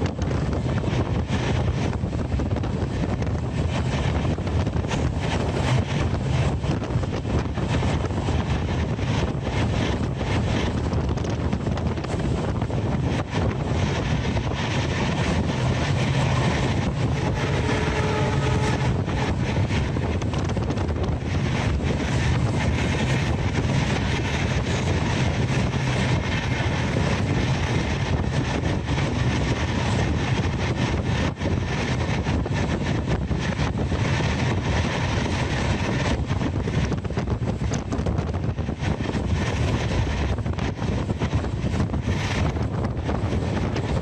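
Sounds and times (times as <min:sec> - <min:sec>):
train wheels running on rails: 0:00.0 - 0:44.0
wind noise: 0:00.0 - 0:44.0.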